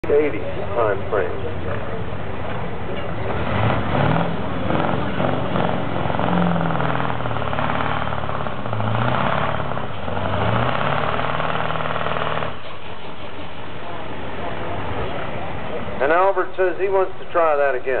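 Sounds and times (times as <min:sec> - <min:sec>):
diesel truck engine under load: 0:00.0 - 0:18.0.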